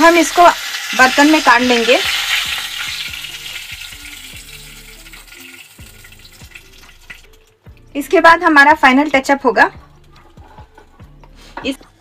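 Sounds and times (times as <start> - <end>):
hot oil sizzling: 0.0 - 11.8.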